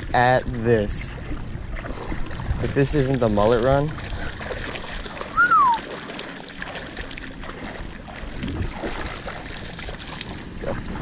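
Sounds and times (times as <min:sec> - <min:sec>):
water swishing and rippling: 0:00.0 - 0:11.0.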